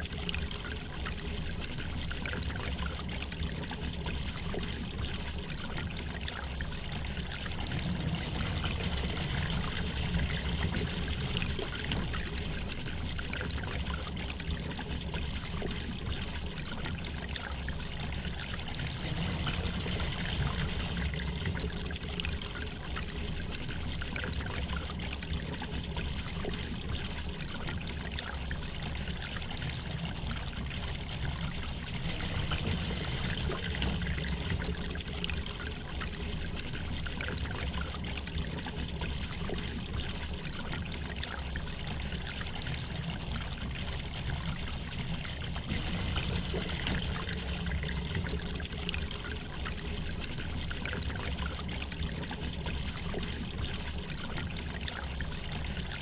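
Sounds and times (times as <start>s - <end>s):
low water rumble: 0.0s - 56.0s.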